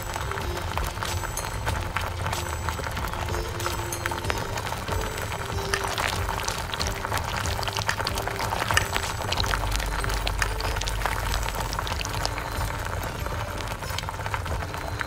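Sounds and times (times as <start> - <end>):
gravy bubbling and popping: 0.0 - 15.0
metal spoon stirring: 0.0 - 15.0.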